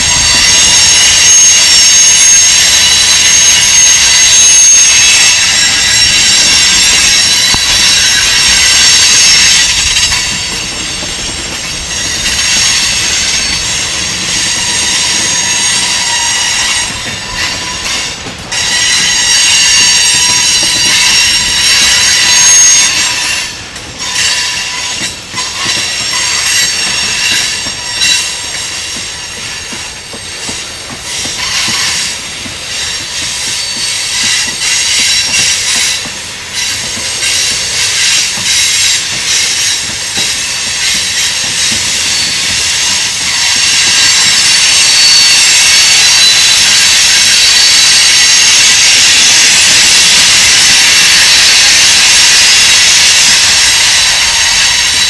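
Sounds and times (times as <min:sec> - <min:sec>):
metallic wheel squeal: 0:00.0 - 0:55.0
train wheels clacking over rail joints: 0:00.0 - 0:55.0.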